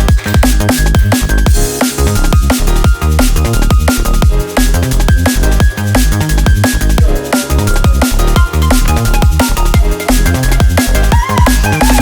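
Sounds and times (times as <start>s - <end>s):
drum and bass electronic music: 0.0s - 12.0s.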